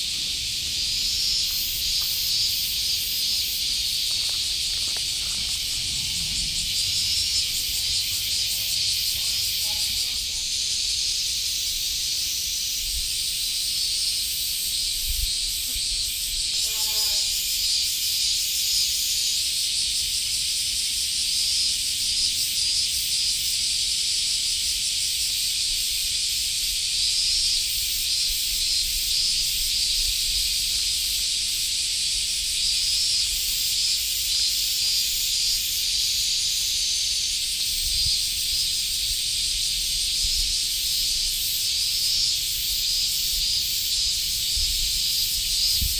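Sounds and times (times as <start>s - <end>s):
insects shrilling: 0.0s - 45.9s.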